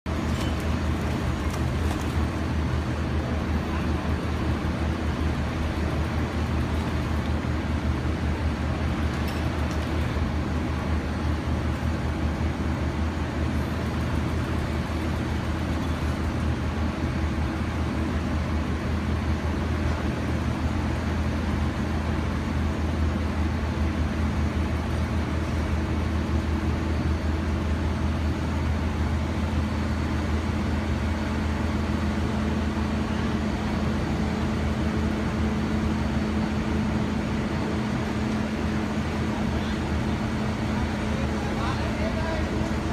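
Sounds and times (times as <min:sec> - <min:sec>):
demolition machinery droning: 0:00.1 - 0:42.9.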